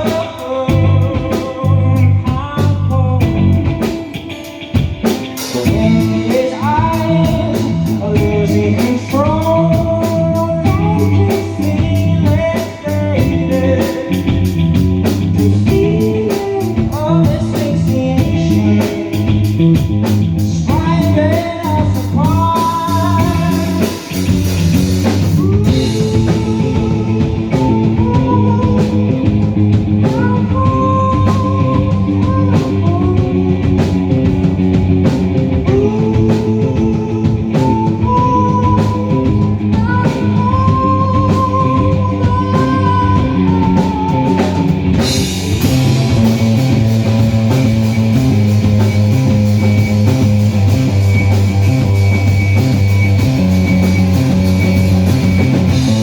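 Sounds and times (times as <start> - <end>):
man singing: 0.0 - 49.4
drum kit: 0.0 - 56.0
electric guitar: 0.0 - 56.0.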